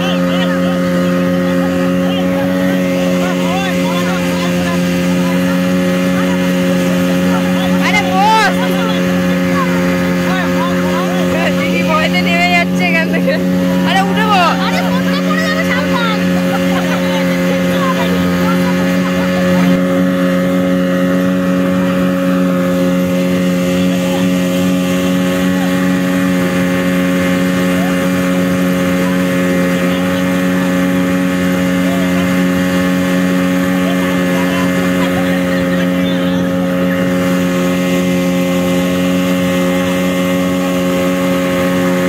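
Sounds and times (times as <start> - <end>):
outboard motor droning: 0.0 - 42.0.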